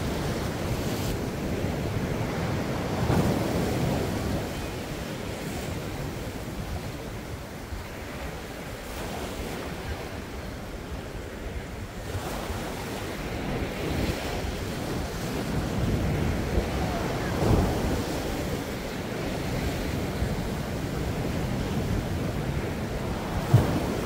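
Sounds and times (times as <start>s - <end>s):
sea waves breaking on rocks: 0.0s - 24.0s
wind buffeting microphone: 0.0s - 24.0s.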